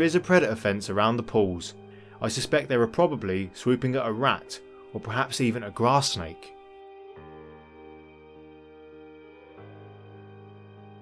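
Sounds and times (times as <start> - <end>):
soft music of held chords: 0.0 - 11.0.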